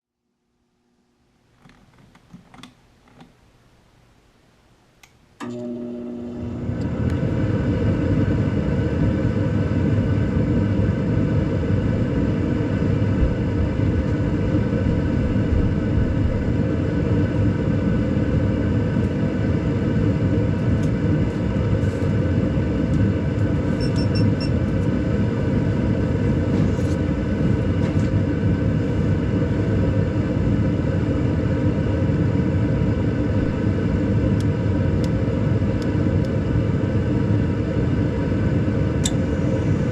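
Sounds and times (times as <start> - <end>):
furnace motor hum: 5.0 - 39.9.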